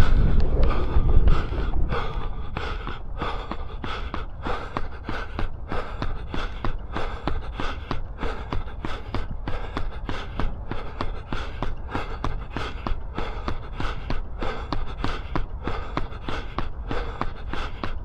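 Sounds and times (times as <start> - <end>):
runner breathing: 0.0 - 18.0
running footsteps on path: 0.0 - 18.0.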